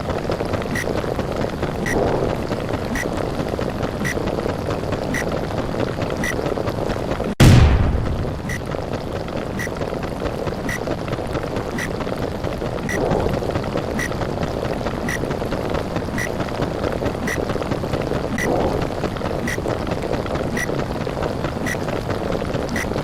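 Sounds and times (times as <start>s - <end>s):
underwater rushing rumble: 0.0s - 22.4s.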